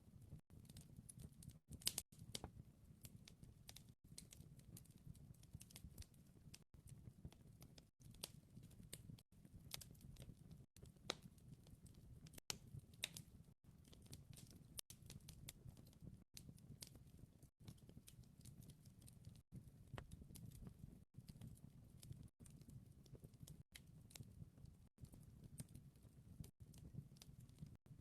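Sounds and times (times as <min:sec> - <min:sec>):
wood fire crackling: 0:00.4 - 0:28.0.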